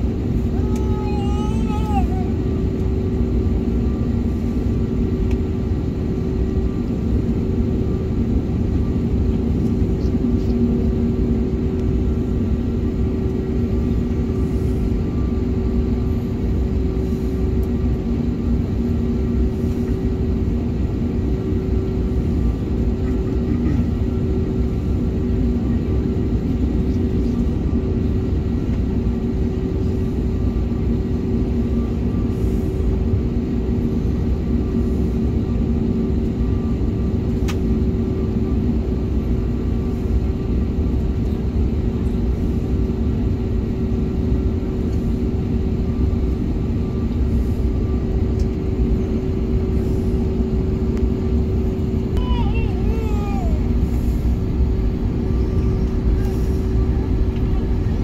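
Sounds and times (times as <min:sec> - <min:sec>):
constant low hum: 0:00.0 - 0:58.0
jet engines idling: 0:00.0 - 0:58.0.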